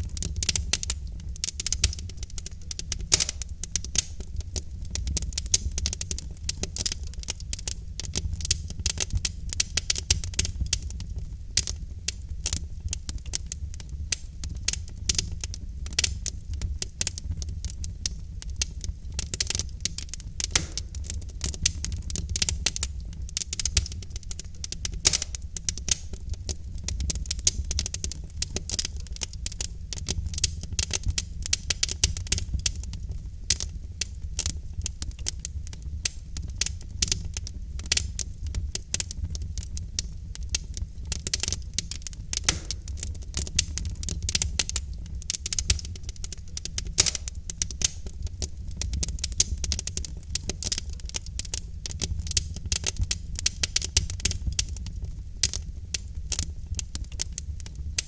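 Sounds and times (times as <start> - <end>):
log fire crackling and popping: 0.0 - 58.0.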